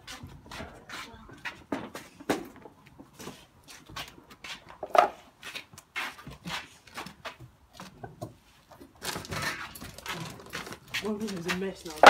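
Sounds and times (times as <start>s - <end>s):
shuffling footsteps: 0.0s - 12.0s.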